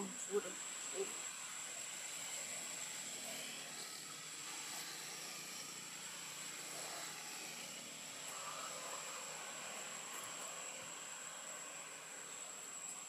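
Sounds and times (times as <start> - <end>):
outdoor background hiss: 0.0 - 13.0
thin high-pitched whine: 0.0 - 13.0.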